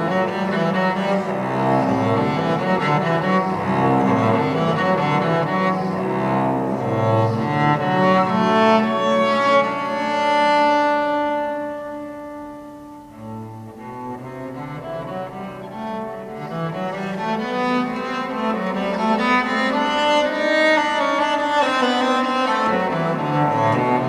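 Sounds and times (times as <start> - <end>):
bowed cello in reverberant church: 0.0 - 24.0.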